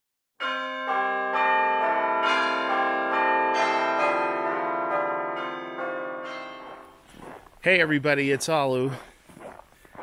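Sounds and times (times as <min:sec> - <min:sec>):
bells ringing: 0:00.4 - 0:08.9.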